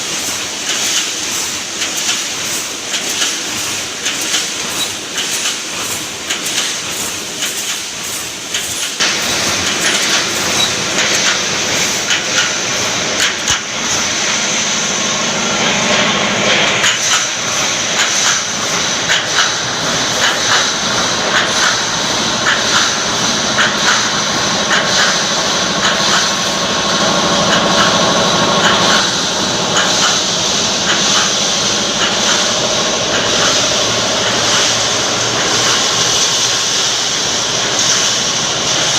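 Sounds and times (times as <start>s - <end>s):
welding machine running: 0.0s - 38.9s.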